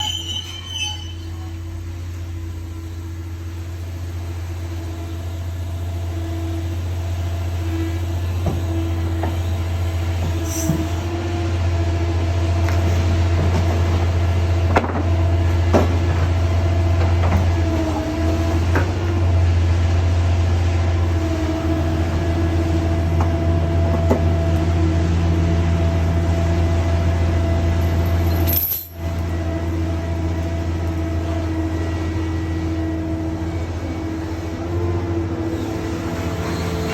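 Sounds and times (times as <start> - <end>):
excavator engine and hydraulics: 0.0 - 36.9.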